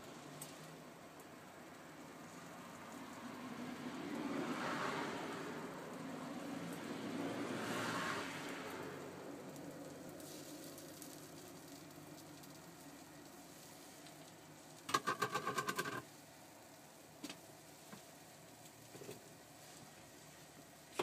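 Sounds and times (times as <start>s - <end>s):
batter sizzling in pan: 0.0s - 21.0s.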